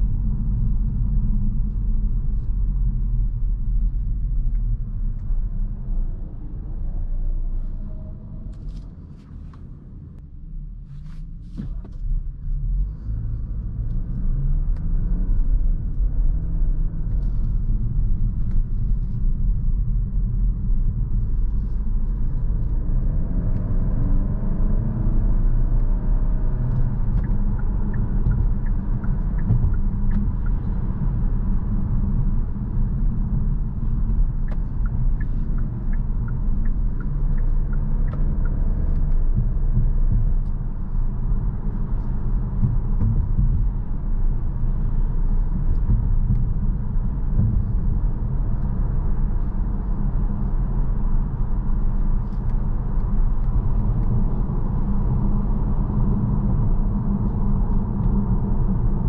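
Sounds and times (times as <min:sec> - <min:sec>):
car engine accelerating: 0:00.0 - 0:59.0
low road rumble: 0:00.0 - 0:59.0.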